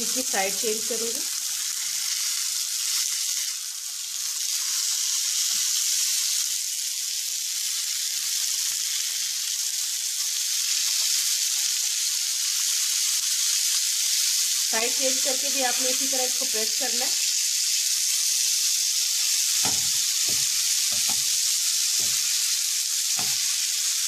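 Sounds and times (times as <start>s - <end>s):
chicken sizzling in a grill pan: 0.0s - 24.0s.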